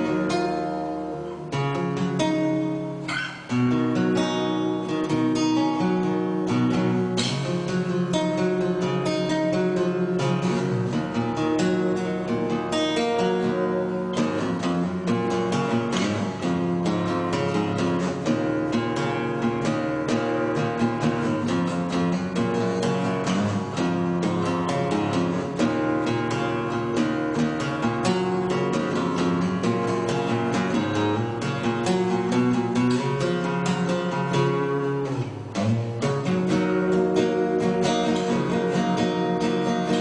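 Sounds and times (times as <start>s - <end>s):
acoustic guitar playing: 0.0s - 40.0s.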